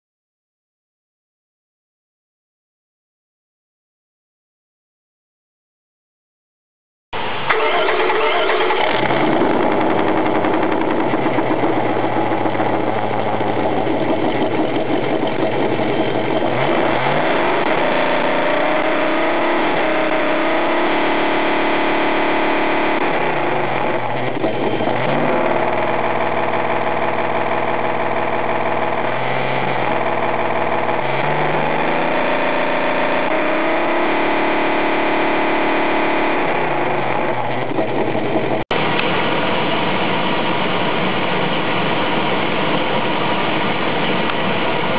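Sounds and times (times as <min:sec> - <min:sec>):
simulated engine idling and revving: 0:07.2 - 0:44.9.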